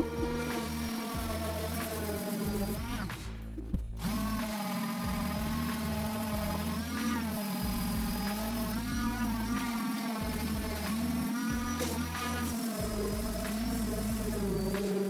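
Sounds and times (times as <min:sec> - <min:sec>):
low bass notes: 0:00.0 - 0:14.9
gliding pitched tones: 0:00.0 - 0:15.0.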